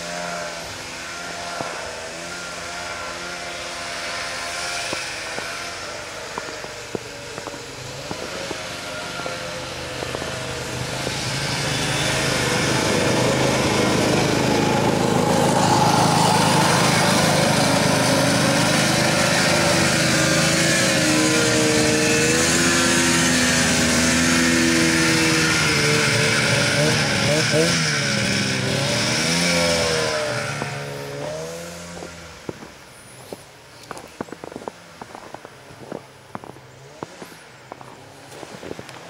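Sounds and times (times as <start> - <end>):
snowmobile engines running: 0.0 - 39.0.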